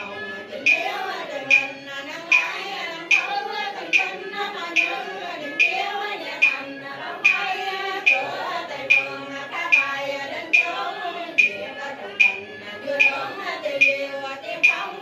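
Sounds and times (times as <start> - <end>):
sharp percussion strikes: 0.0 - 15.0
voices chanting a prayer: 0.0 - 15.0.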